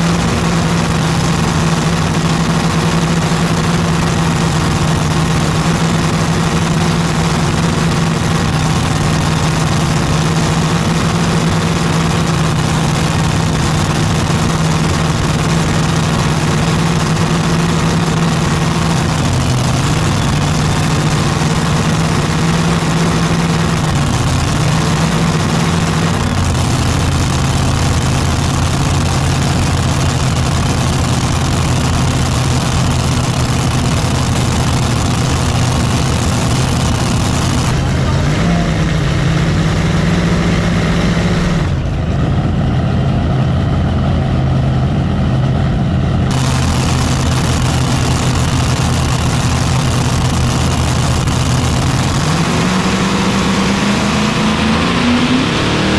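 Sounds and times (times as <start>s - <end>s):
tractor engine idling: 0.0s - 55.7s.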